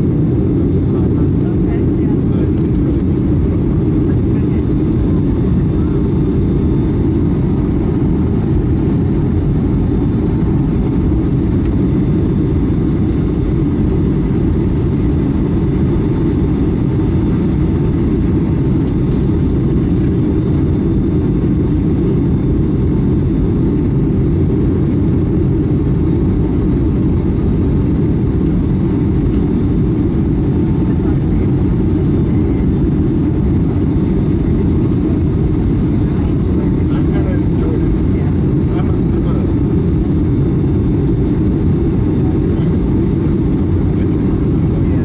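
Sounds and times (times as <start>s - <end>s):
aircraft cabin engine rumble: 0.0s - 45.0s
faint steady whine: 0.0s - 45.0s.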